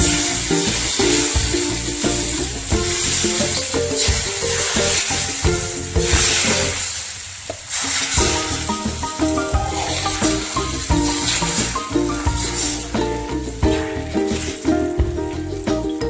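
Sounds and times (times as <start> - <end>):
background music: 0.0 - 7.0, 7.9 - 16.0
batter sizzling in hot pan: 0.0 - 16.0.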